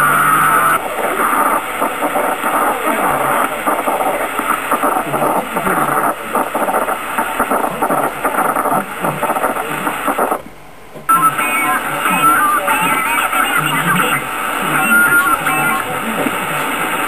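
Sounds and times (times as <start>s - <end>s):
garbled radio signals: 0.0s - 17.0s
radio static hiss: 0.0s - 17.0s.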